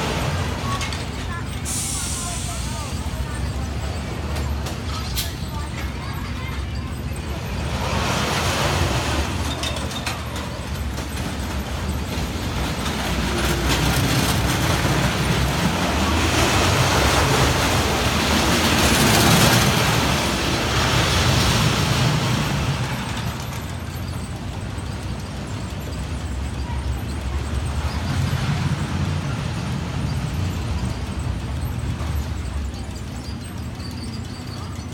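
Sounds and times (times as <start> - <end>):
roller coaster train rumbling: 0.0 - 34.9.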